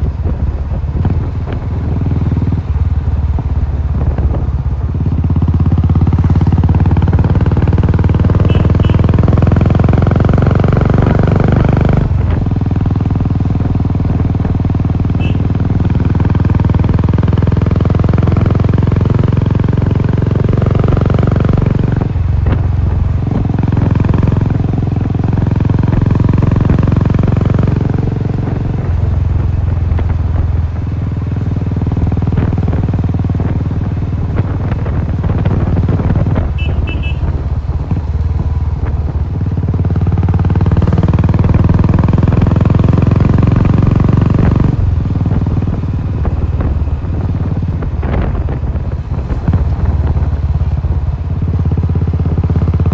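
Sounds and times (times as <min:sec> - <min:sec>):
motorcycle engine while riding: 0:00.0 - 0:52.9.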